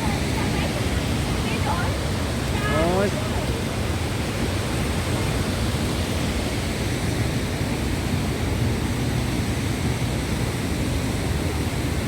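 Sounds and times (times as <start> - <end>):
river water rushing over cascades: 0.0 - 12.0.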